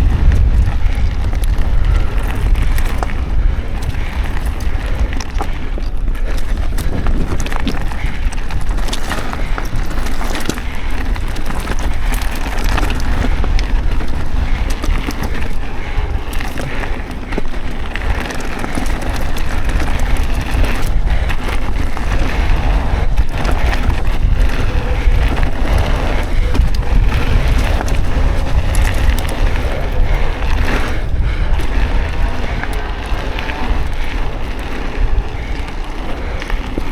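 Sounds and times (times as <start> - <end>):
bike clicks and rattles: 0.0 - 36.9
bike tyre noise: 0.0 - 36.9
wind buffeting microphone: 0.0 - 36.9.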